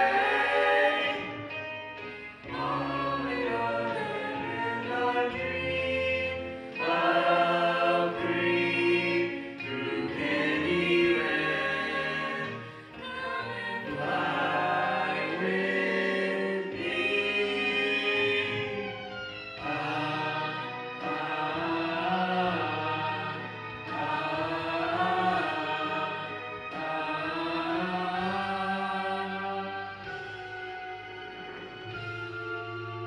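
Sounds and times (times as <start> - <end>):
chorus of voices singing: 0.0 - 33.0
instrumental accompaniment: 0.0 - 33.0.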